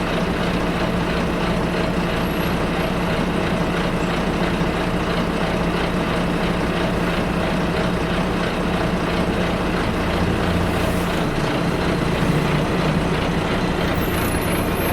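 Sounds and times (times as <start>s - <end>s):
bus cabin noise: 0.0s - 14.9s
bus engine idling: 0.0s - 14.9s.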